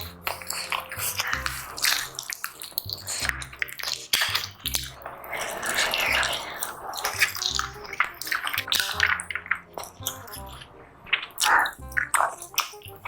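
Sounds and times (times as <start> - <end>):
sharp smacking clicks: 0.0 - 5.0, 7.0 - 13.0
background music: 0.0 - 13.0
wet chewing and slurping: 0.0 - 13.0.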